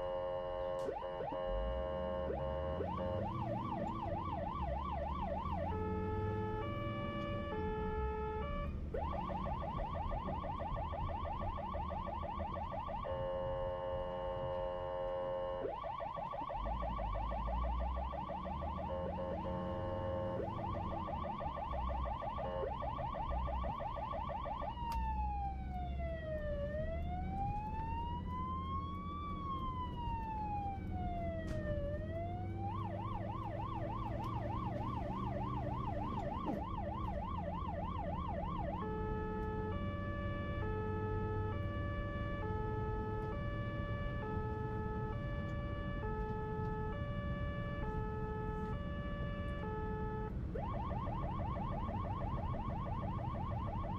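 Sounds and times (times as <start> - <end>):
ambulance siren: 0.0 - 53.9
low vehicle rumble: 0.0 - 53.9.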